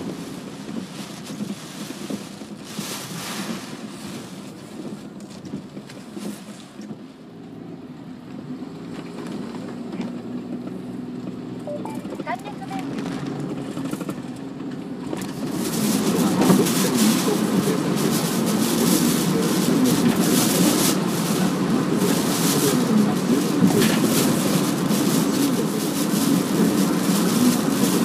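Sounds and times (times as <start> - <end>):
tyre and wind noise inside car: 0.0 - 11.6, 12.2 - 28.0
rain and gusts hitting car: 0.0 - 28.0.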